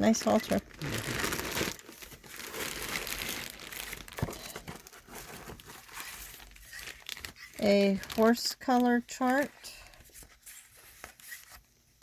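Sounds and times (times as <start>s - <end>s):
packaging crinkling and rustling: 0.0s - 11.7s.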